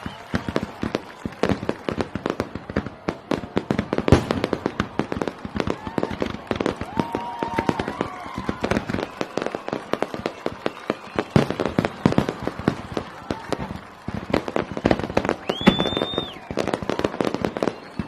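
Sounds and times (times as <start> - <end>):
fireworks bangs and pops: 0.0 - 18.0.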